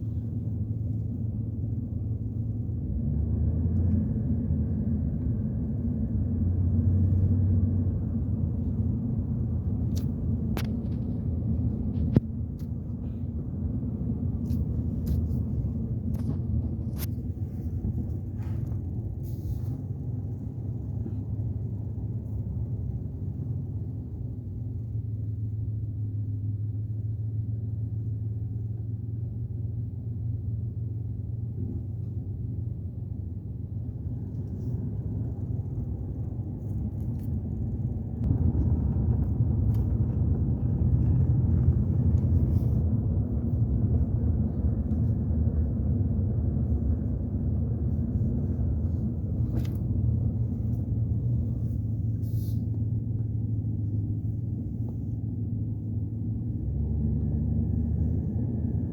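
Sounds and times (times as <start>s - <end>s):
vehicle engine and road rumble: 0.0s - 58.9s.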